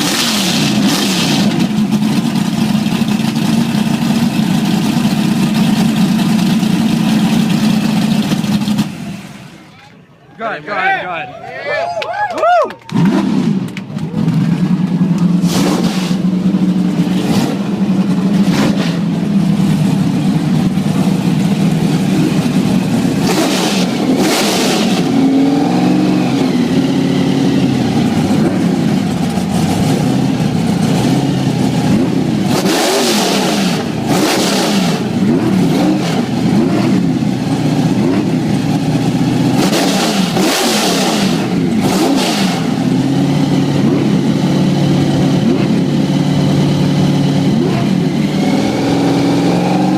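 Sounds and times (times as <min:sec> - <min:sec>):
engines idling and revving: 0:00.0 - 0:49.9.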